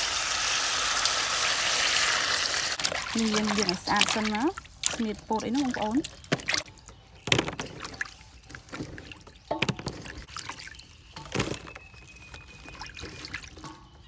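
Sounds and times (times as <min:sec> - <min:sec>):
water splashing and dripping: 0:00.0 - 0:14.0.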